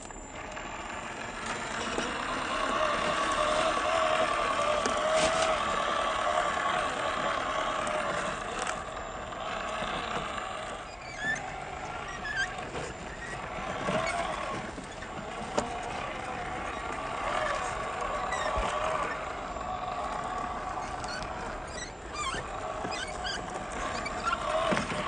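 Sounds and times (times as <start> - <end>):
rc car motor and gear whine: 0.0 - 25.0.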